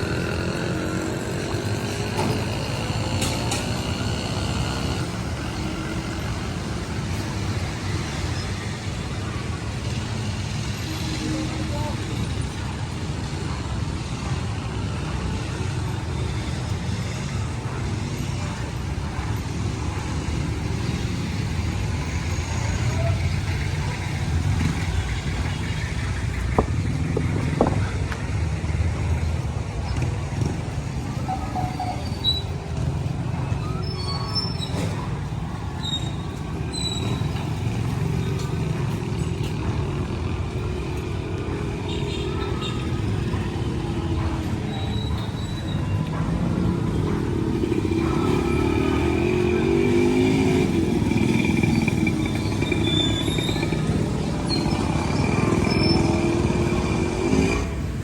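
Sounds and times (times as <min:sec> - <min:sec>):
rumble of passing vehicles: 0:00.0 - 0:58.0.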